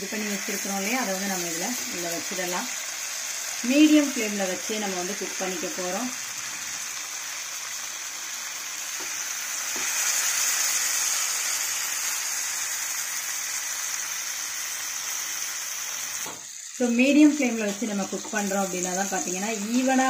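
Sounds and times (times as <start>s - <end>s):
chicken sizzling in butter: 0.0s - 20.0s.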